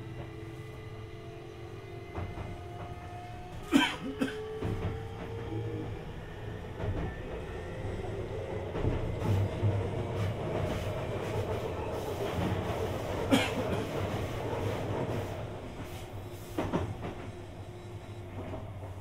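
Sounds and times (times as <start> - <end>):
train rolling noise: 0.0 - 19.0.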